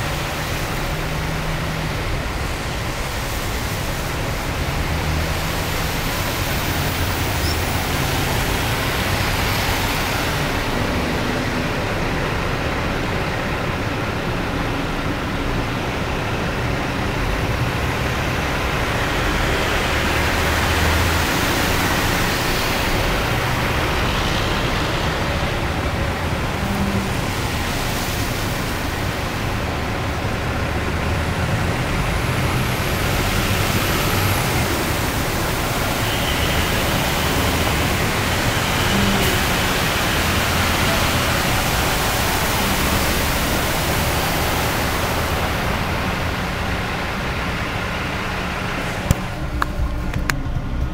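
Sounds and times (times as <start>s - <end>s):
passing vehicle engines: 0.0s - 50.9s.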